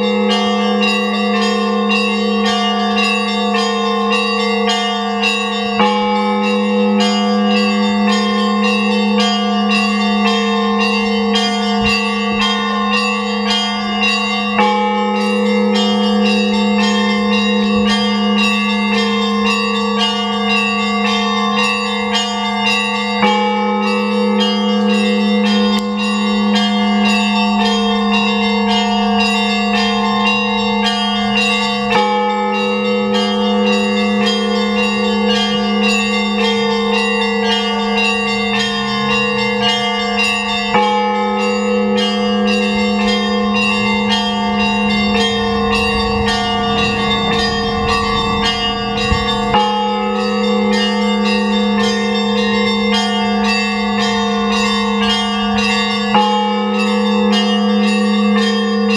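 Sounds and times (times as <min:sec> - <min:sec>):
deep bells humming: 0:00.0 - 0:58.9
small church bells ringing: 0:00.0 - 0:58.9.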